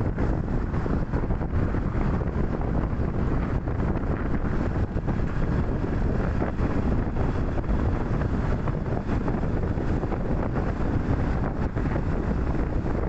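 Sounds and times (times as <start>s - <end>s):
passing road traffic: 0.0s - 13.0s
wind on microphone: 0.0s - 13.0s.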